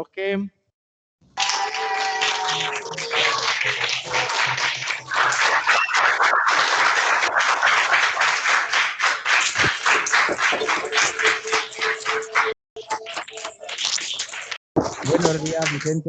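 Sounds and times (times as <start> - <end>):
audience applauding: 1.4 - 16.0.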